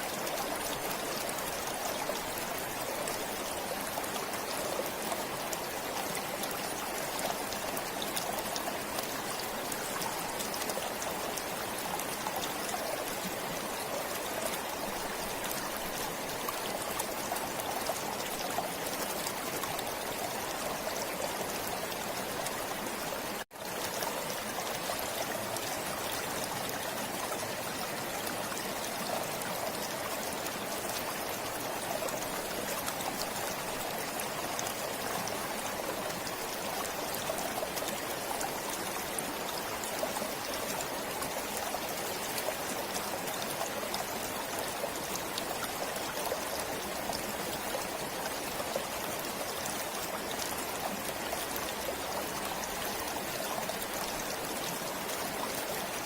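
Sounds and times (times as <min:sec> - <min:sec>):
forest stream trickling: 0:00.0 - 0:56.0.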